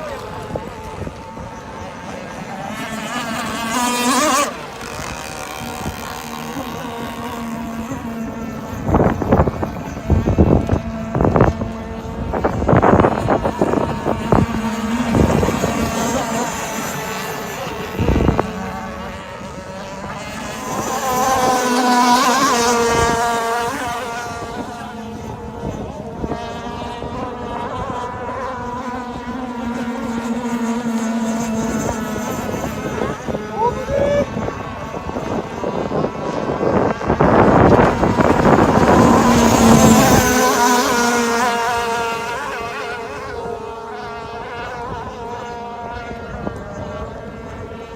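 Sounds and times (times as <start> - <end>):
model boat engine passing: 0.0 - 47.9.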